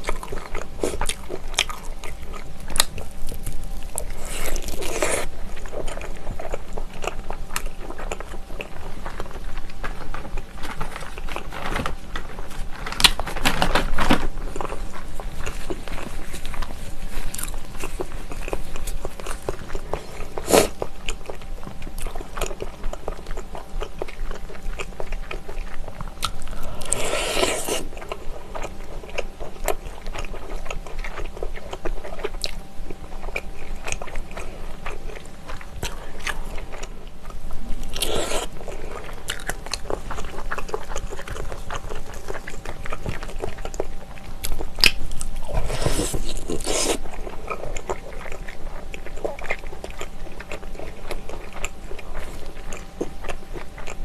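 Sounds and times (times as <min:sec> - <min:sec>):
close chewing with wet smacks: 0:00.0 - 0:13.1, 0:14.6 - 0:54.0.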